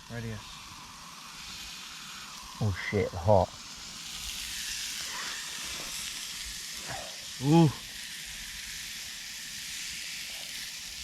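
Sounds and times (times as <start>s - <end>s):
steak sizzling: 0.0s - 11.0s.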